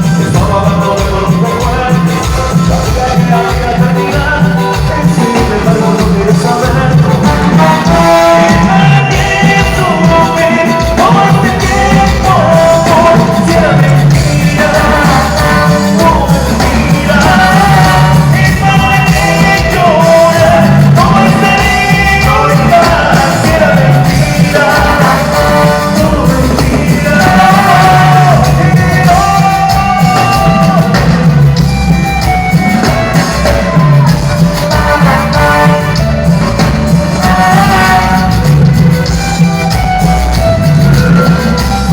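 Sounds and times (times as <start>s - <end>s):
live band playing latin music: 0.0s - 41.9s.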